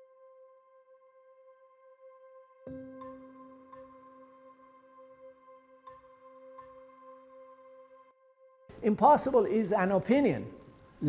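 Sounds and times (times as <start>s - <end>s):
soft ambient music: 0.0s - 11.0s.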